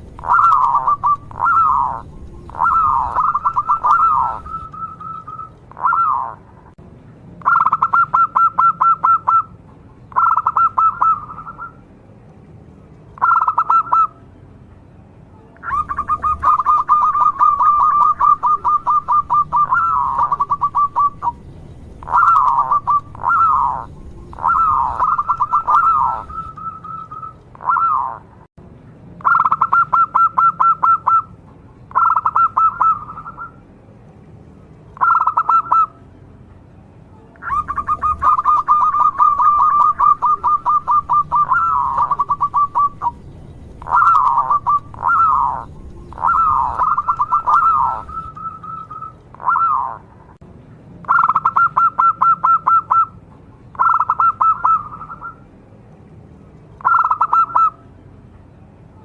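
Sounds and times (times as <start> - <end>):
dove cooing trills: 0.0 - 6.8, 7.4 - 11.8, 13.2 - 14.2, 15.6 - 28.3, 29.2 - 31.3, 31.9 - 33.6, 35.0 - 36.0, 37.4 - 50.1, 51.1 - 53.2, 53.8 - 55.4, 56.8 - 57.8.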